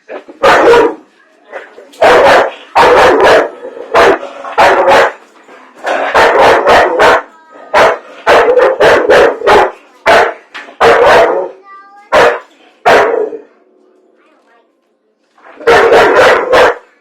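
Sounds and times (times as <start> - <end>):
dog barking loudly: 0.1 - 5.2, 5.8 - 13.5, 15.5 - 17.0.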